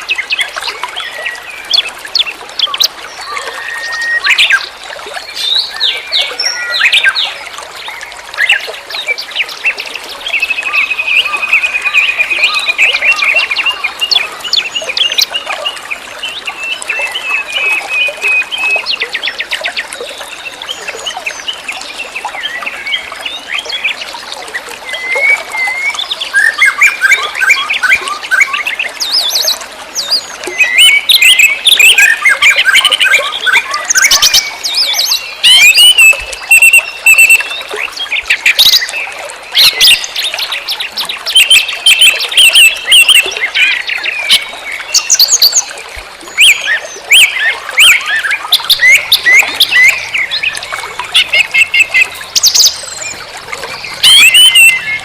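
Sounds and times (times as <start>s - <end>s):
birds chirping and trilling: 0.0s - 7.4s, 8.0s - 45.7s, 46.3s - 55.0s.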